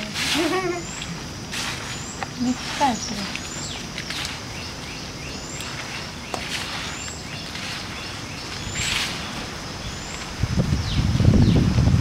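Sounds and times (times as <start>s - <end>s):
bird chirping: 0.0s - 11.8s
outdoor background noise: 0.0s - 12.0s.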